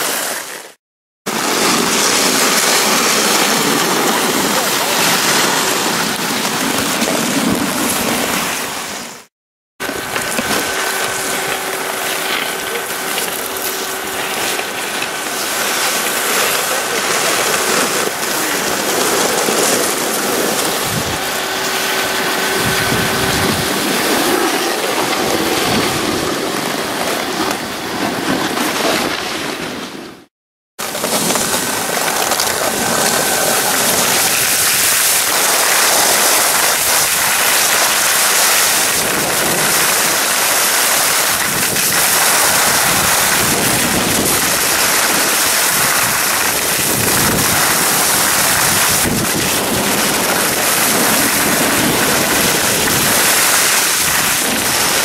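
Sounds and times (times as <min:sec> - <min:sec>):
snowmaking guns spraying: 0:00.0 - 0:29.8, 0:30.8 - 0:55.0.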